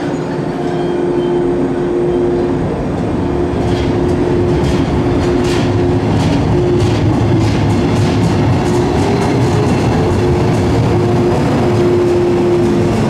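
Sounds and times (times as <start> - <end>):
electric train running hum: 0.0 - 13.0
train wheels clicking on track: 2.4 - 13.0.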